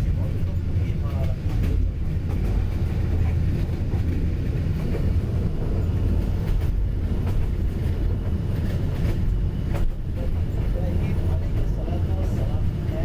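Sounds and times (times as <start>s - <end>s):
moving train rumbling: 0.0s - 13.0s.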